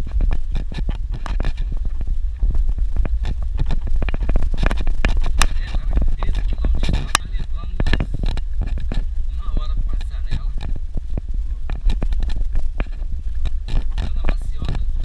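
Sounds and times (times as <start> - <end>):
vehicle rumbling on dirt road: 0.0 - 15.0.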